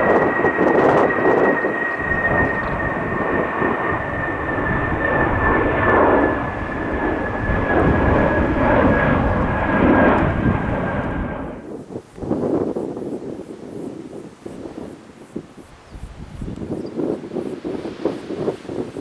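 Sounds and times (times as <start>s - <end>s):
airliner engines roaring: 0.0s - 19.0s.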